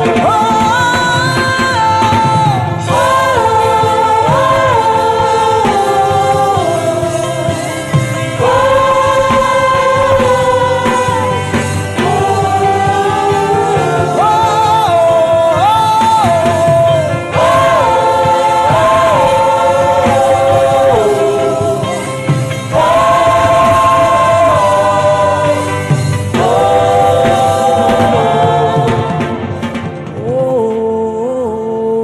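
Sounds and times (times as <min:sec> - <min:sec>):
voices humming in harmony: 0:00.0 - 0:32.0.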